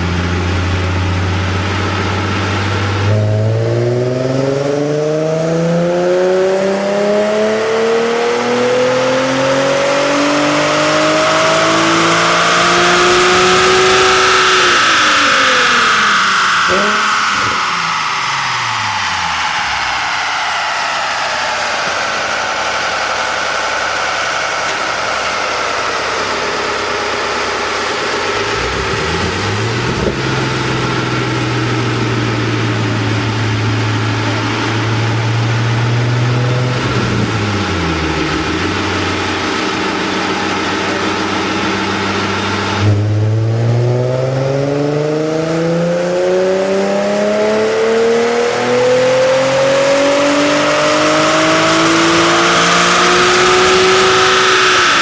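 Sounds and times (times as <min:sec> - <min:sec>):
car engine revving on dyno: 0:00.0 - 0:55.0.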